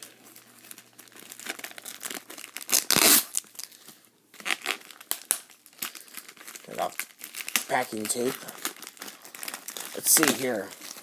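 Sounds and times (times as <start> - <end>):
packing tape tearing: 0.0 - 3.8, 4.4 - 11.0
packaging crinkling: 0.0 - 11.0.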